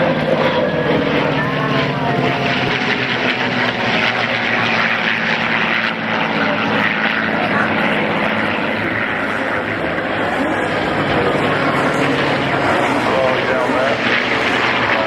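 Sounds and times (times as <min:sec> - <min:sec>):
aircraft piston engines droning: 0:00.0 - 0:15.0.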